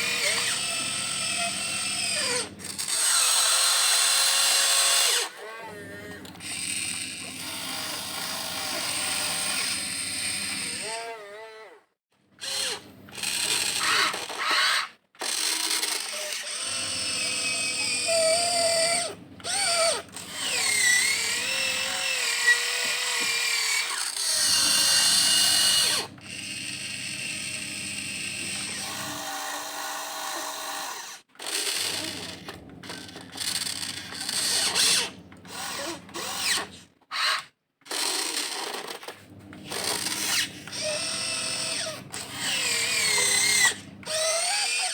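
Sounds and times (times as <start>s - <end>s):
toy excavator motors whining: 0.0s - 44.9s.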